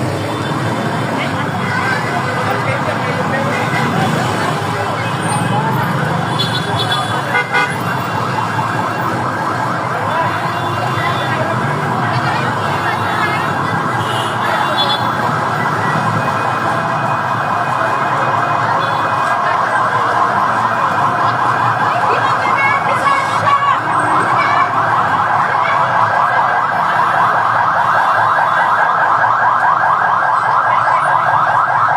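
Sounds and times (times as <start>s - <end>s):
engine and traffic rumble: 0.0s - 31.9s
fire truck siren yelping: 0.0s - 31.9s.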